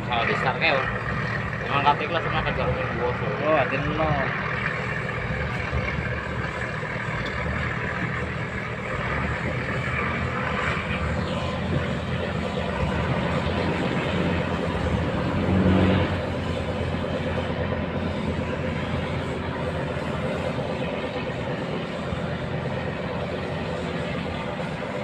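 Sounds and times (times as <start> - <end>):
boat engine running: 0.0 - 25.0.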